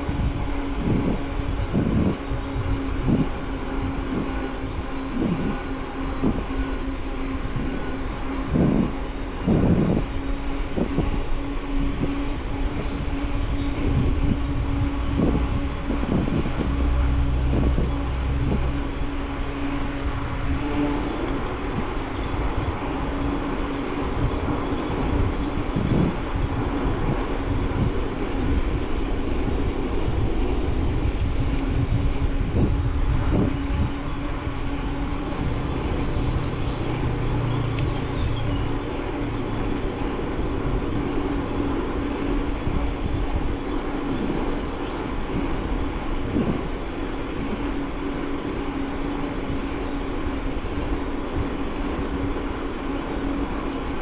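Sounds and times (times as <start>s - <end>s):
bicycle tyre rumble: 0.0s - 54.0s
constant low hum: 0.0s - 54.0s
wind noise: 0.0s - 54.0s.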